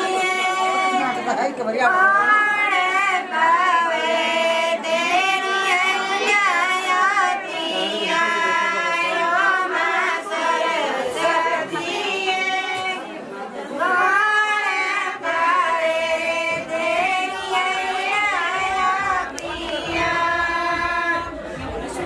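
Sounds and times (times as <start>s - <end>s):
group of women singing folk song: 0.0s - 22.0s.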